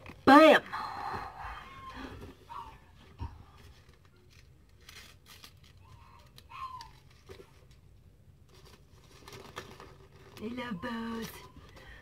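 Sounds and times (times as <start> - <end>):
rustling and crinkling of wrapping: 0.0 - 12.0.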